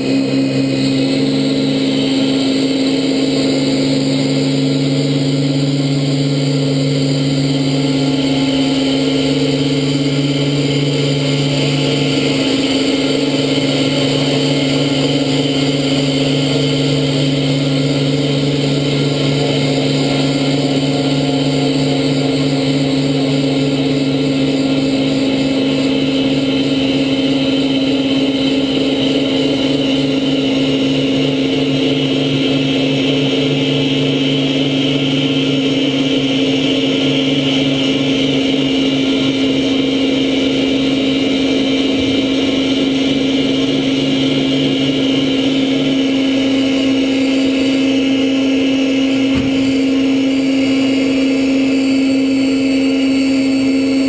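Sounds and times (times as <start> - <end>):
drill spindle motors humming: 0.0 - 54.0
lower hum: 0.0 - 54.0.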